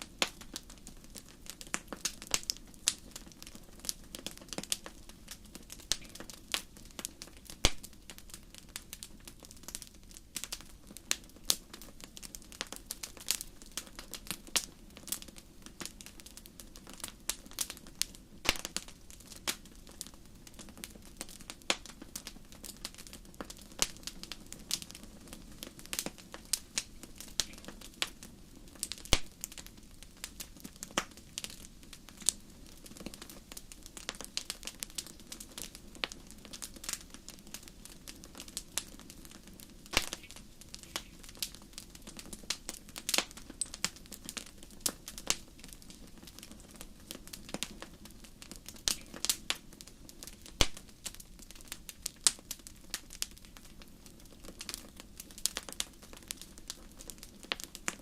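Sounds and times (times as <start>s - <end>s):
campfire crackling and popping: 0.0s - 58.0s
low rush of burning flames: 0.0s - 58.0s.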